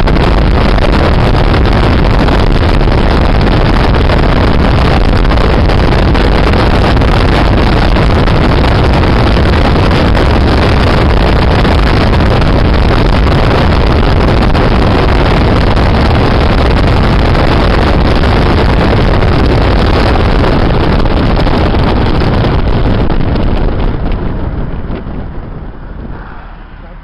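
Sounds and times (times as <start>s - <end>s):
car engine running: 0.0s - 27.0s
road noise: 0.0s - 27.0s
wind rushing through car window: 0.0s - 27.0s.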